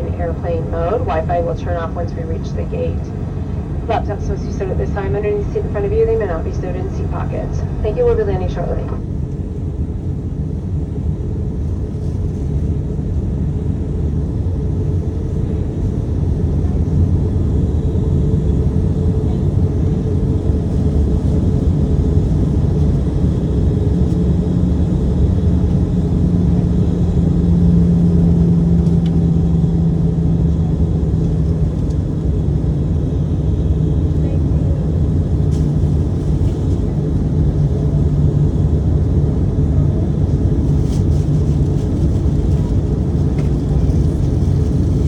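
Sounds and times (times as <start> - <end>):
airplane cabin rumble: 0.0 - 45.0
steady low hum: 0.0 - 45.0.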